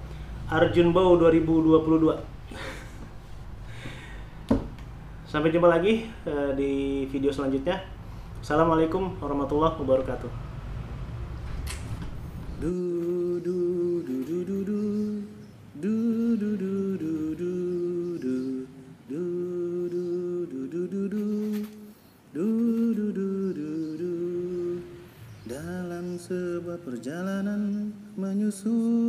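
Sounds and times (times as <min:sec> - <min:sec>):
wordless humming voices: 0:00.0 - 0:29.0.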